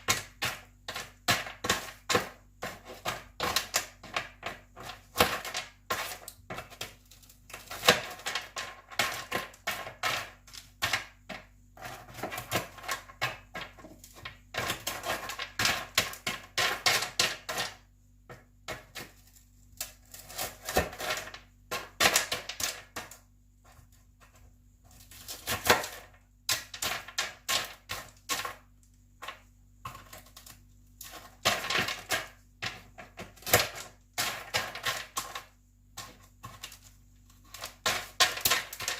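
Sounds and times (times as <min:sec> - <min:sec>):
fried pieces clicking and rattling: 0:00.0 - 0:17.8, 0:18.7 - 0:38.9.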